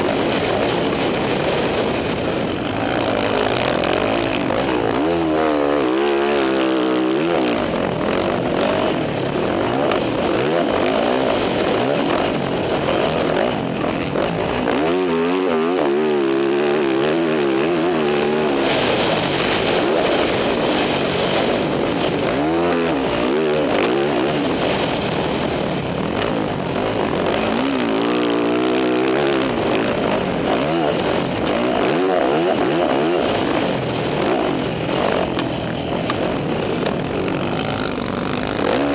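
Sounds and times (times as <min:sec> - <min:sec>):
dirt bike engine revving: 0:00.0 - 0:38.9
steady rushing noise: 0:00.0 - 0:38.9.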